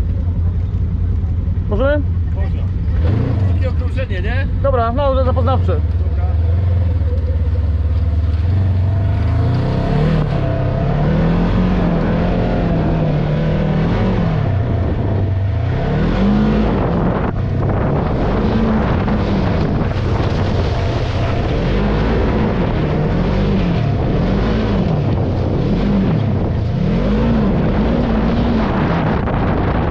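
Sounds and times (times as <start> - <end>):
off-road vehicle engine revving: 0.0 - 29.9.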